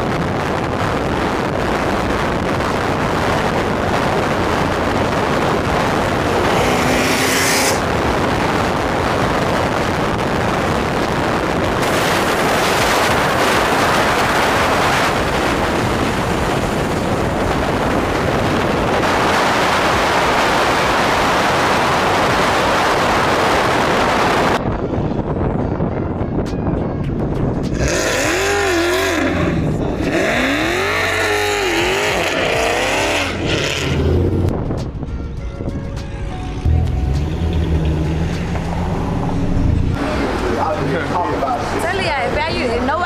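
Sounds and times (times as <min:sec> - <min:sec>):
wind on microphone: 0:00.0 - 0:40.8
tyre and road noise: 0:00.0 - 0:43.0.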